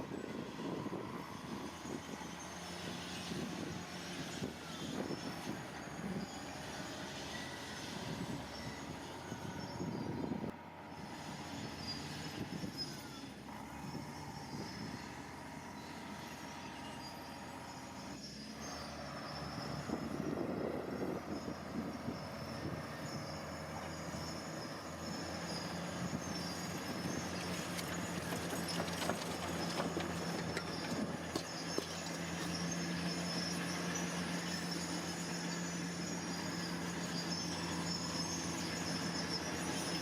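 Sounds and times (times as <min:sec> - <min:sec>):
diesel engine running: 0:00.0 - 0:40.0
metal clanks and squeals: 0:00.1 - 0:40.0.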